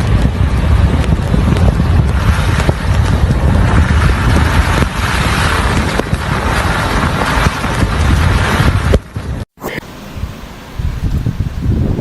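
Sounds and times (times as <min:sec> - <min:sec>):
strong wind blowing on microphone: 0:00.0 - 0:09.5, 0:10.1 - 0:12.0.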